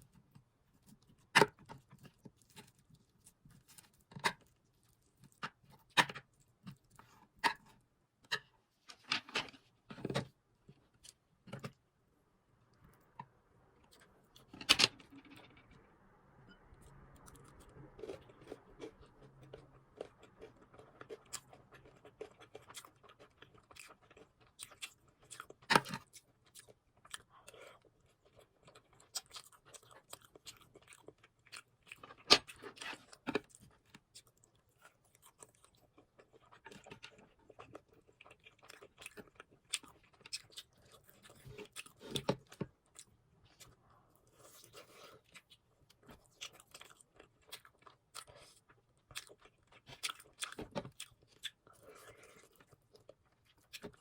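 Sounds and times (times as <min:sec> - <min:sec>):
crunching and chewing: 0:00.0 - 0:08.5, 0:16.8 - 0:54.0.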